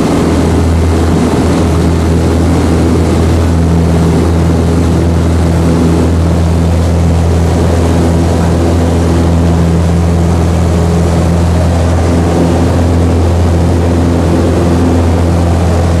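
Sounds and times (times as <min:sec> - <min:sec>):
aircraft engine and propeller drone: 0:00.0 - 0:16.0.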